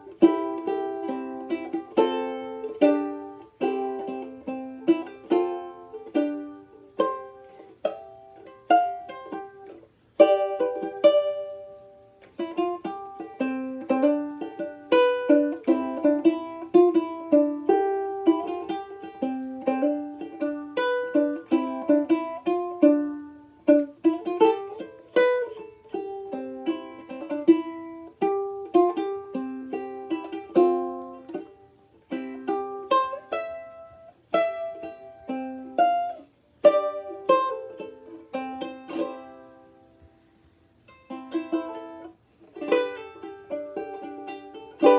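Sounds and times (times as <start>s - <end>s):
banjolele plucked notes and chords: 0.0s - 44.9s.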